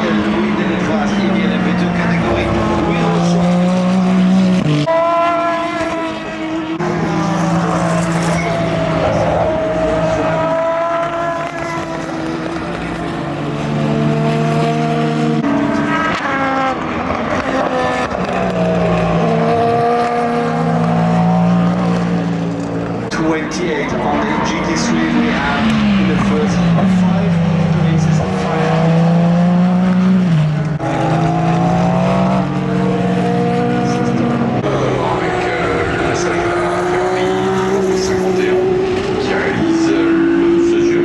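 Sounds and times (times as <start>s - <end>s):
race cars passing at speed: 0.0s - 41.0s.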